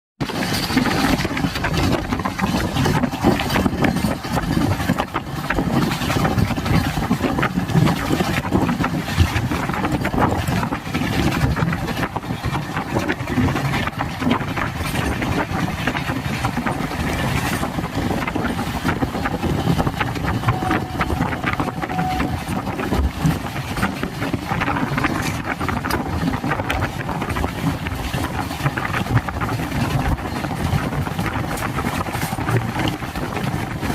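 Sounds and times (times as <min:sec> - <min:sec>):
passenger train rumbling on track: 0:00.2 - 0:33.9.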